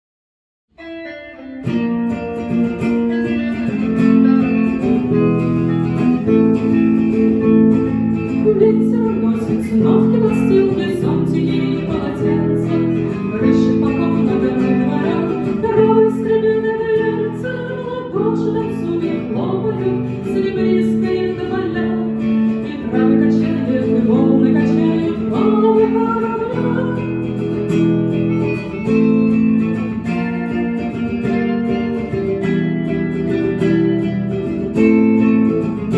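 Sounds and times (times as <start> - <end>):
live guitar-led instrumental: 0.7 - 35.9.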